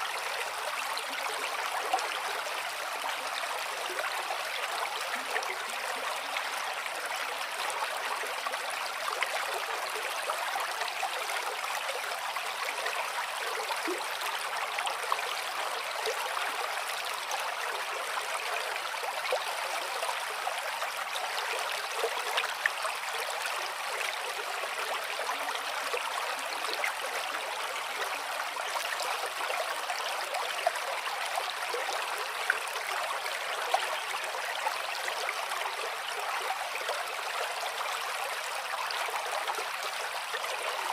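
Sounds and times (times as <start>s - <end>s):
shallow stream flowing: 0.0s - 40.9s.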